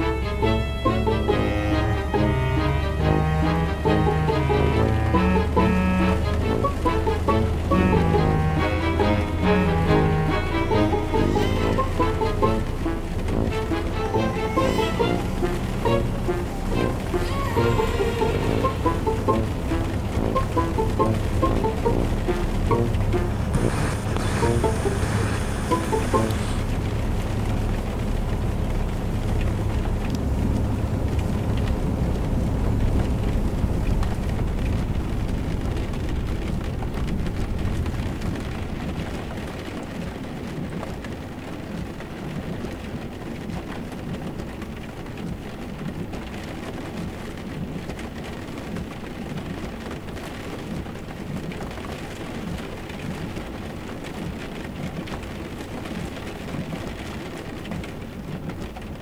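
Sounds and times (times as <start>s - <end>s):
steady rushing rumbling noise: 0.0s - 59.0s.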